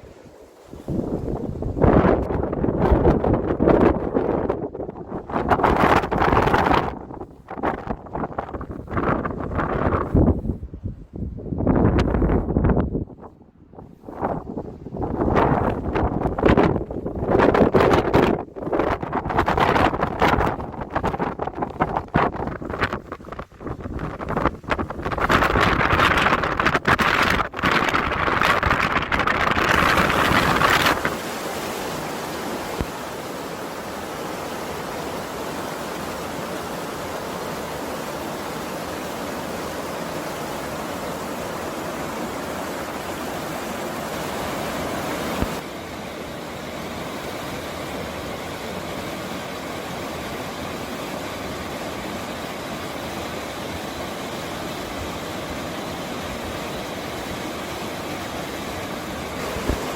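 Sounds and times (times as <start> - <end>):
mountain stream flowing: 0.0 - 10.3, 14.0 - 59.9.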